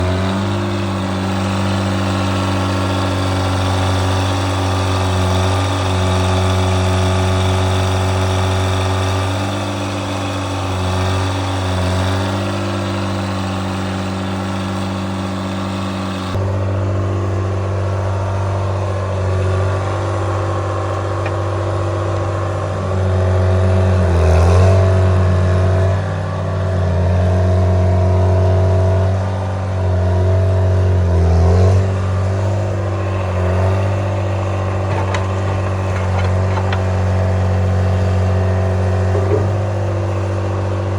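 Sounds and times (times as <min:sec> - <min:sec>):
diesel engine running and revving: 0:00.0 - 0:40.9.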